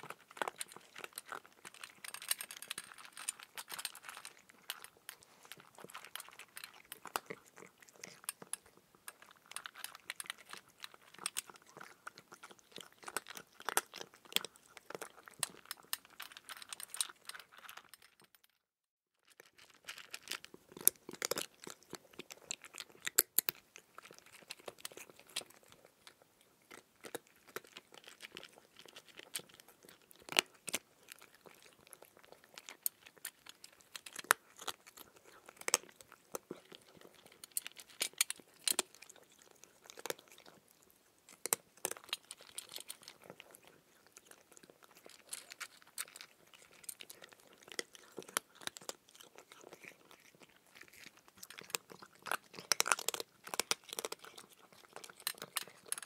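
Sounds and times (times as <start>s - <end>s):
person chewing cucumber crunchily: 0.0s - 17.9s, 19.4s - 56.0s.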